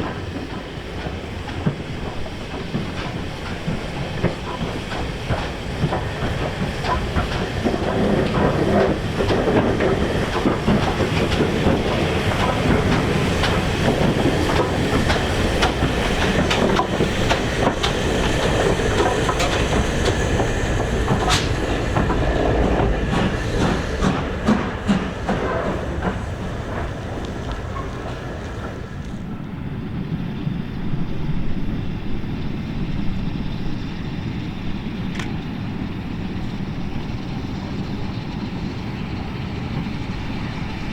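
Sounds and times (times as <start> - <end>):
train wheels clicking over rail joints: 0.0 - 40.9.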